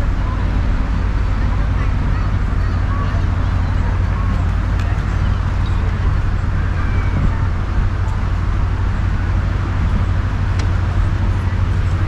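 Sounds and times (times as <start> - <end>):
faint distant voices: 0.0 - 12.0
low rumbling noise: 0.0 - 12.0.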